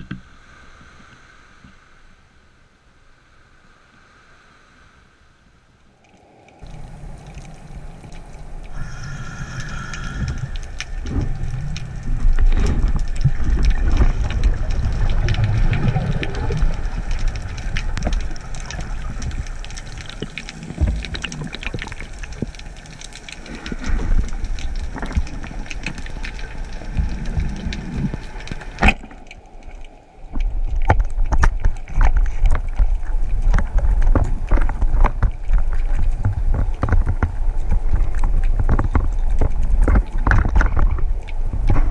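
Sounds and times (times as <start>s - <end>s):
underwater water rumble: 5.9s - 41.9s.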